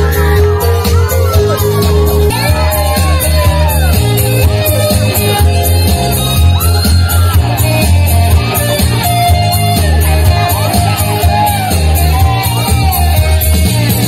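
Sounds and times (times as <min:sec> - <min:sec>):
dance music over speakers: 0:00.0 - 0:14.0.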